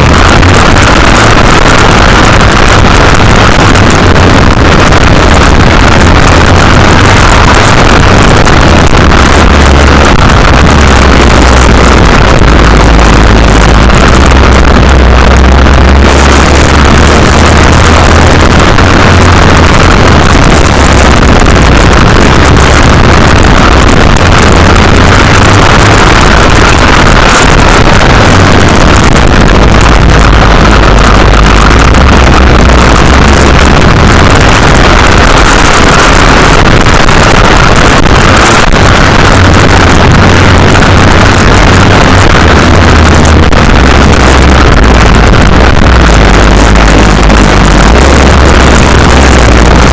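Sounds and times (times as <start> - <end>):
distorted motocross bike engine: 0.0 - 49.9.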